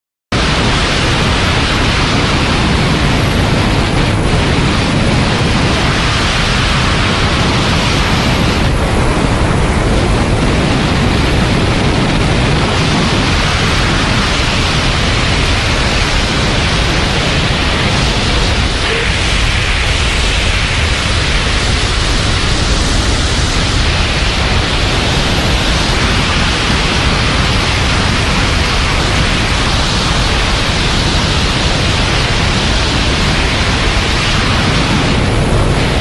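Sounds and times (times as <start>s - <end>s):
wind buffeting microphone: 0.4s - 36.0s.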